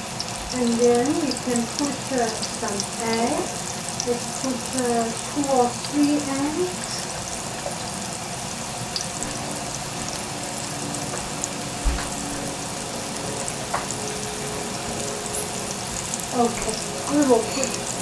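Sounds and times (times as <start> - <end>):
mushrooms sizzling in oil: 0.0 - 18.0.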